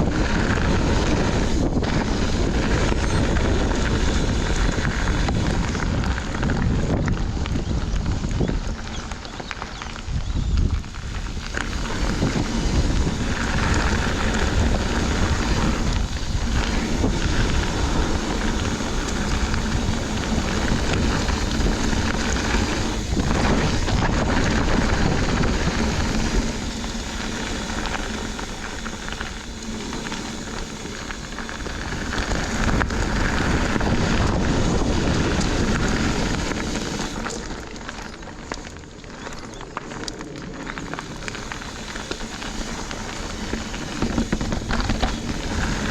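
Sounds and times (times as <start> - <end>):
mountain bike tyre noise and rattle: 0.0 - 45.9
wind buffeting microphone: 0.0 - 45.9.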